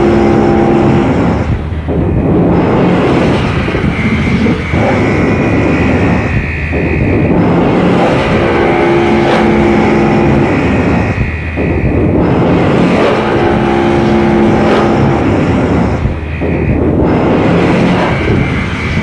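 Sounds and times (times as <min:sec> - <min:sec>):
dense wash of noise: 0:00.0 - 0:19.0
steady held tones: 0:00.0 - 0:19.0.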